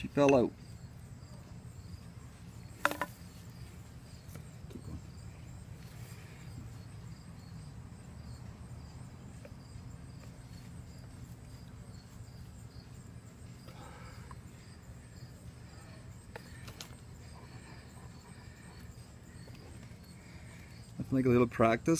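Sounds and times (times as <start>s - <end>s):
insects chirping: 0.0s - 21.9s.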